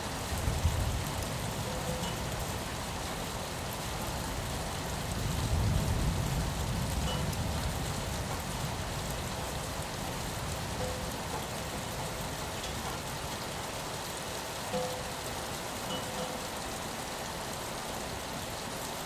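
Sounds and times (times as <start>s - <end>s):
rain on a window: 0.0s - 19.0s.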